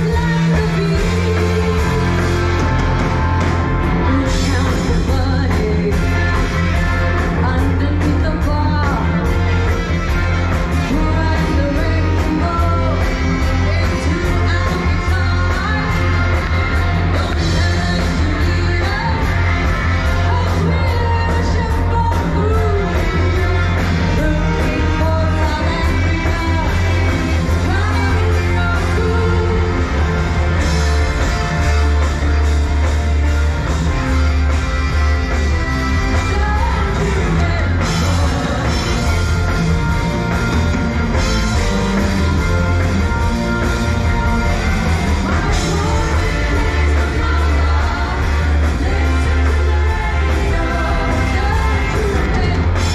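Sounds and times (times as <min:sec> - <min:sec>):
person singing: 0:00.0 - 0:32.4, 0:35.9 - 0:52.9
heavy bass: 0:00.0 - 0:52.9
live rock band playing: 0:00.0 - 0:52.9
steady drum beat: 0:00.0 - 0:52.9.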